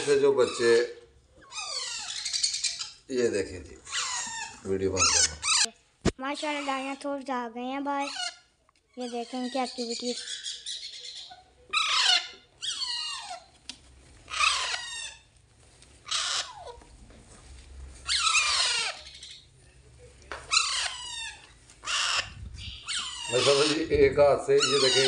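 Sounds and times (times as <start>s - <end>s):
parakeet chicks begging calls: 0.0s - 7.1s, 7.8s - 13.5s, 14.3s - 15.3s, 16.0s - 16.9s, 18.0s - 19.6s, 20.5s - 25.0s.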